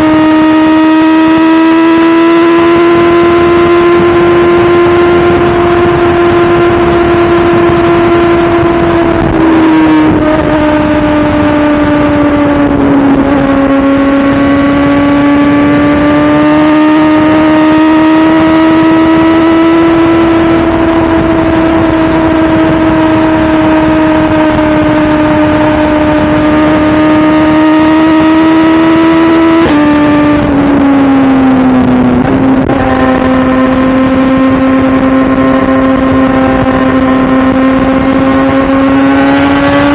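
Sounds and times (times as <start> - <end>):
motorcycle engine at high pitch: 0.0 - 39.9
wind rushing: 0.0 - 39.9.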